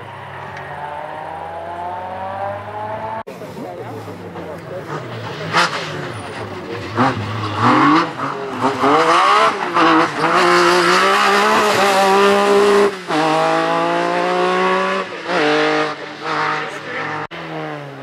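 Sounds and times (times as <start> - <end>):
rally car engine accelerating: 0.0 - 18.0.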